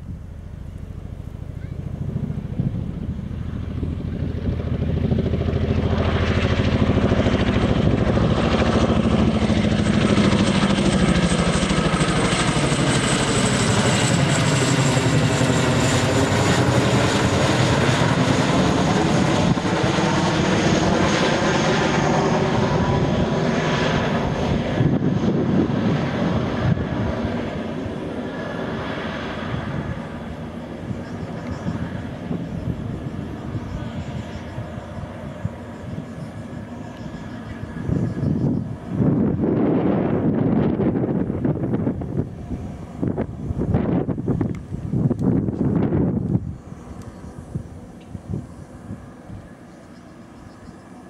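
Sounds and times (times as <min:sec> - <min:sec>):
helicopter rotors beating: 0:00.0 - 0:51.0
turbine engine whine: 0:00.0 - 0:51.0.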